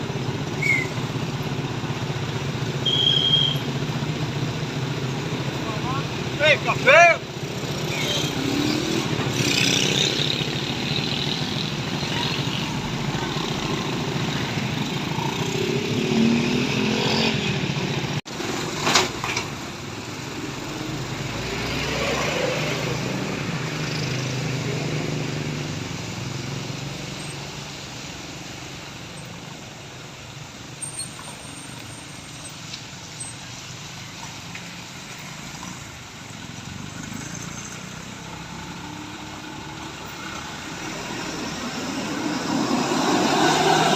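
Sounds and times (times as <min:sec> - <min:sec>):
truck engines passing: 0:00.0 - 0:43.9.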